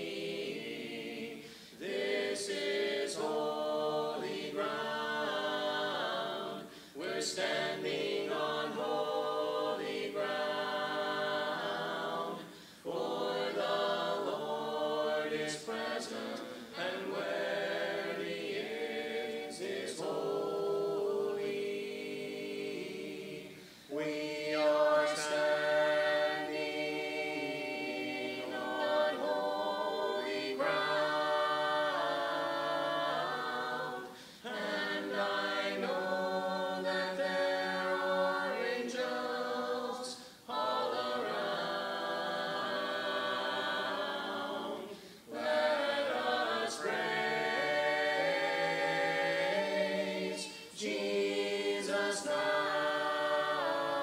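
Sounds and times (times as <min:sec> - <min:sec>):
voices singing a hymn in harmony: 0:00.0 - 0:54.0.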